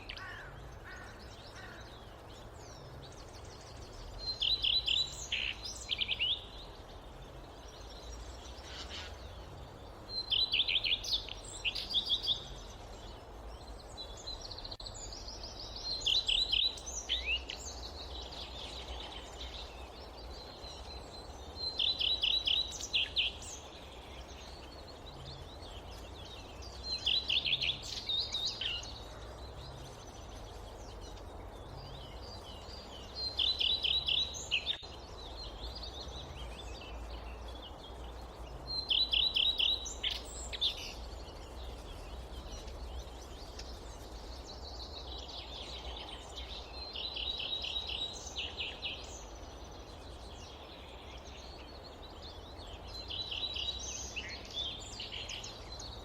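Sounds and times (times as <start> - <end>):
low outdoor background noise: 0.0 - 56.0
soft bird chirps: 0.0 - 56.0.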